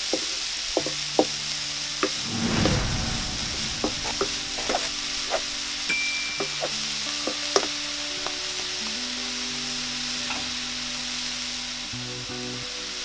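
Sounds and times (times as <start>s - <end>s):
food sizzling in a wok: 0.0s - 2.2s, 4.4s - 13.0s.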